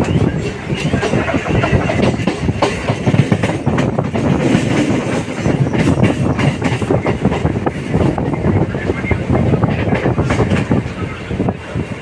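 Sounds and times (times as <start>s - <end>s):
train wheels clattering over rail joints: 0.0s - 11.6s.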